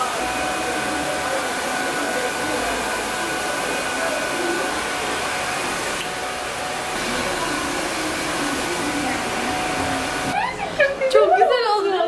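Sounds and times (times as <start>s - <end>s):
hair dryer blowing: 0.0s - 10.6s.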